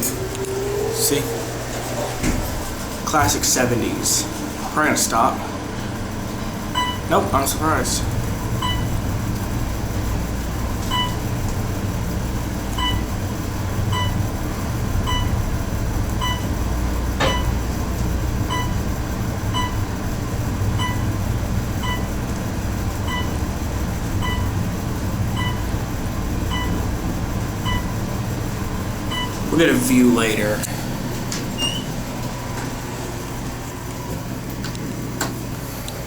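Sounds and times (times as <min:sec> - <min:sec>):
elevator car rumbling: 0:00.0 - 0:36.0
fan running: 0:00.0 - 0:36.0.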